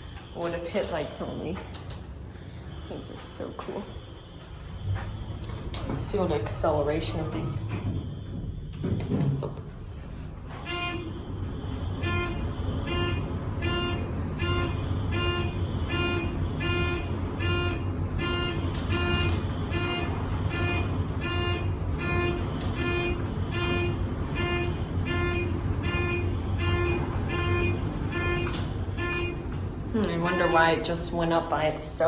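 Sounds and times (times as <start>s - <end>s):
fire alarm horn blasts: 0.0s - 1.7s, 2.4s - 31.3s
steady low hum: 0.0s - 32.0s.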